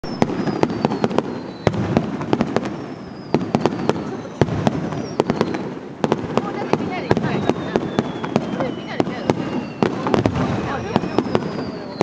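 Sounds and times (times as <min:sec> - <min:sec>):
fireworks bangs and crackles: 0:00.0 - 0:12.0
fireworks whistles falling in pitch: 0:00.0 - 0:12.0.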